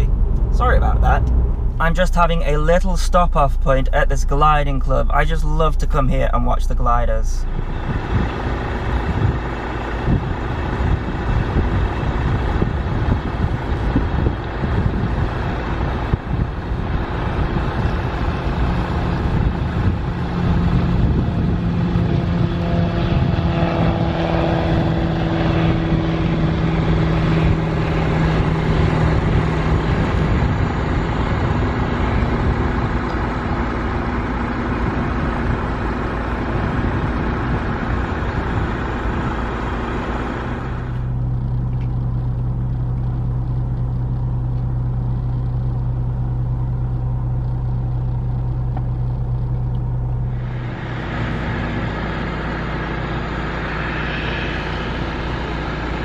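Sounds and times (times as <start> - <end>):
wind rumble on microphone: 0.0 - 4.2, 6.5 - 56.0
propeller plane engine droning: 0.0 - 56.0.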